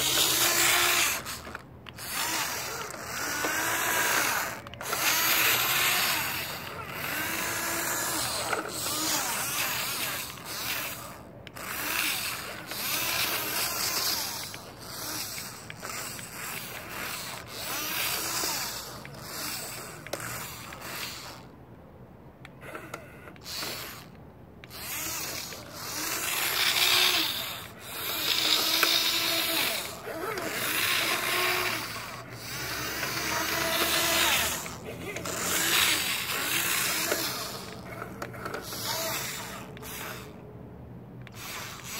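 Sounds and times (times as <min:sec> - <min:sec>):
toy electric motor whining: 0:00.0 - 0:21.6, 0:22.4 - 0:40.5, 0:41.2 - 0:41.9.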